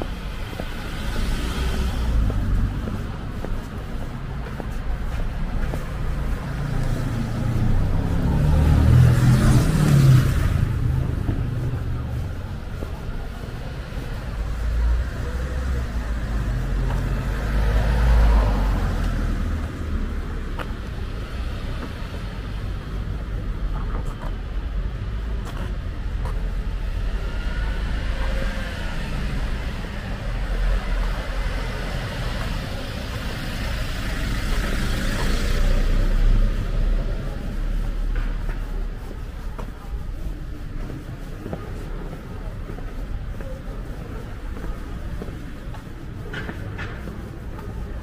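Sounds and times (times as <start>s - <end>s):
deep rumbling vehicle passing: 0.0s - 23.8s, 26.7s - 45.1s
steady low traffic rumble: 0.0s - 48.0s
vehicle tyre hiss passing: 0.1s - 23.2s, 26.9s - 46.0s.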